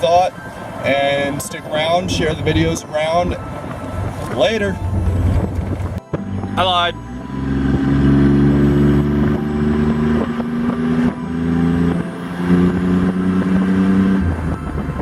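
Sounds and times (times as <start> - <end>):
pickup engine revving: 0.0 - 15.0.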